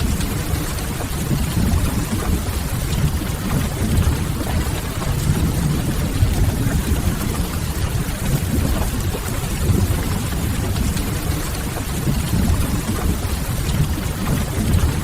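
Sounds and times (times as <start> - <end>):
deep steady rumble: 0.0 - 15.0
rain on a window: 0.0 - 15.0.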